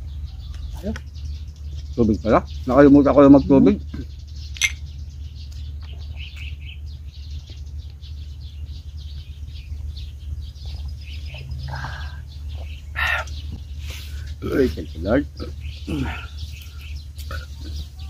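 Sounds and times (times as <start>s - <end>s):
bird trill: 0.0s - 18.0s
small birds chirping: 0.0s - 18.0s
steady low hum: 0.0s - 18.0s.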